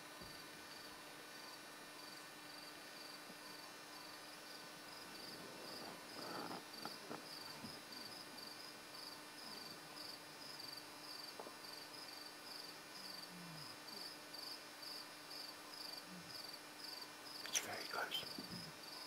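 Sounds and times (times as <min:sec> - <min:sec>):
cricket chirping: 0:00.2 - 0:19.0.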